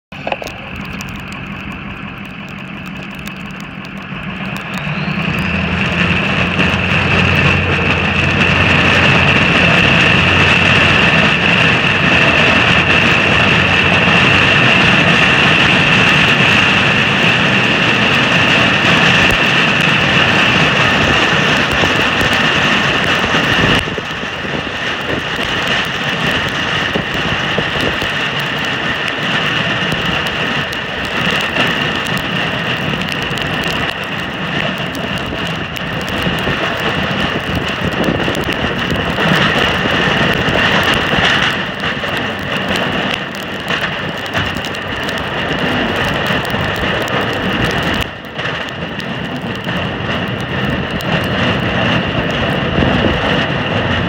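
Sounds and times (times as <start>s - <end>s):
high whine: 0.1s - 54.0s
snowplow engine under load: 0.1s - 54.0s.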